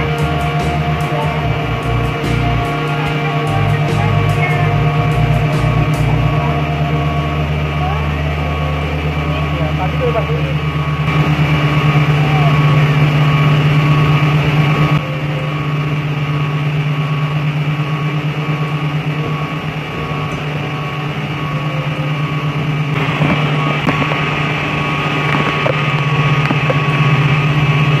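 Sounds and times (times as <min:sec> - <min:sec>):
machinery droning: 0:00.0 - 0:28.0
steady high tones: 0:00.0 - 0:28.0.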